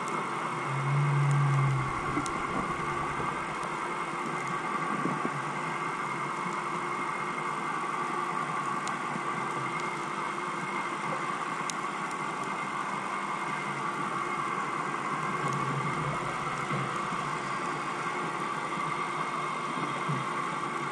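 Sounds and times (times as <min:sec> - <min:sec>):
underwater mechanical hum: 0:00.0 - 0:20.9.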